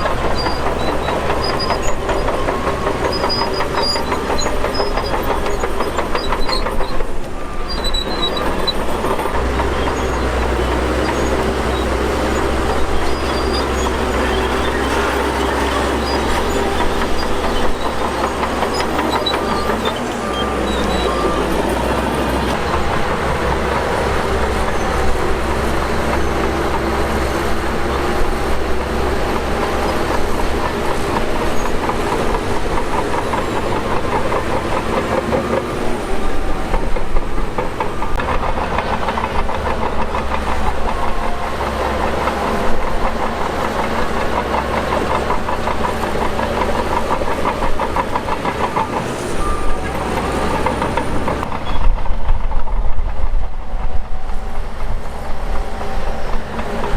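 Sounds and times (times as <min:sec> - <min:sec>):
bulldozer diesel engine: 0:00.0 - 0:56.9
steel tracks clanking: 0:00.0 - 0:56.9.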